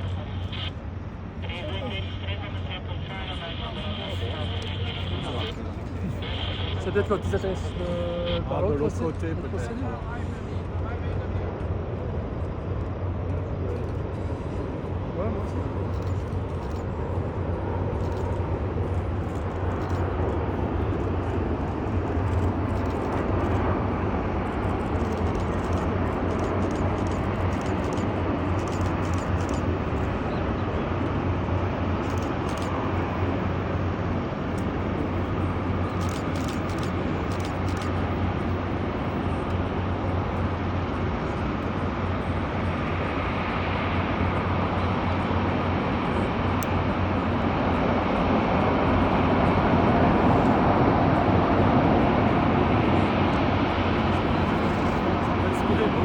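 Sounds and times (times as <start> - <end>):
high jet engine whine: 0.0 - 56.0
jet engines running: 0.0 - 56.0.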